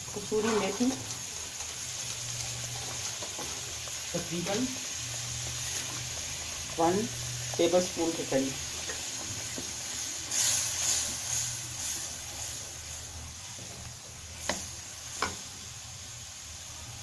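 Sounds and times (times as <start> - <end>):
masala sizzling in a metal pot: 0.0 - 17.0.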